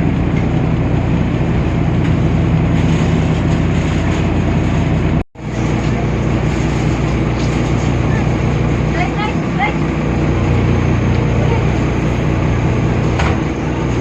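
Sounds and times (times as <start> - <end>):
diesel bus engine droning: 0.0 - 14.0.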